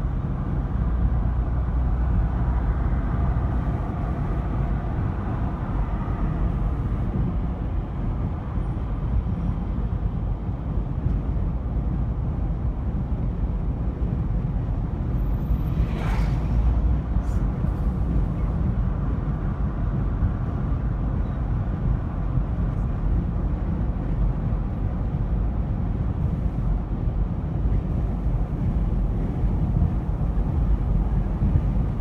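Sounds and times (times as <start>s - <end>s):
car driving on highway: 0.0s - 32.0s.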